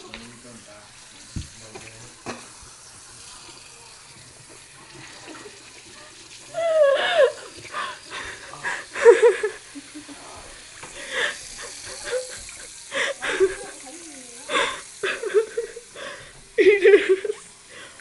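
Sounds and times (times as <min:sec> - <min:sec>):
water running: 0:00.0 - 0:18.0.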